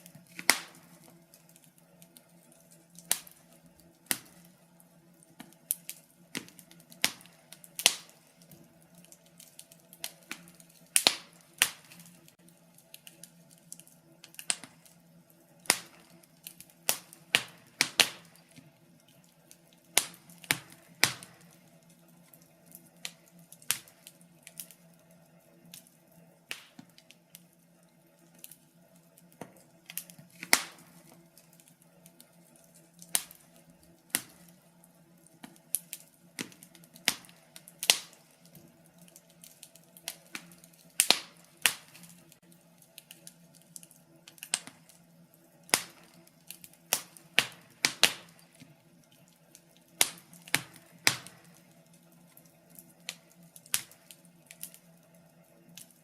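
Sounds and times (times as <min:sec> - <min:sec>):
faint steady hum: 0:00.0 - 0:56.0
wood fire crackling and popping: 0:00.0 - 0:56.0.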